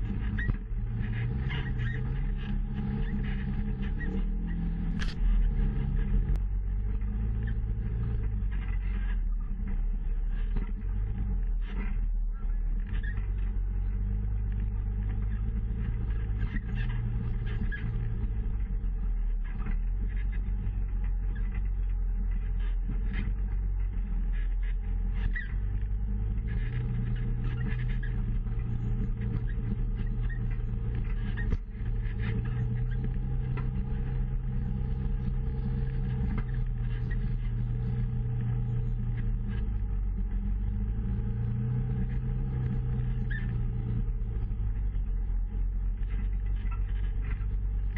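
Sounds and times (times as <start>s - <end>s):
off-road vehicle engine droning: 0.0s - 47.9s.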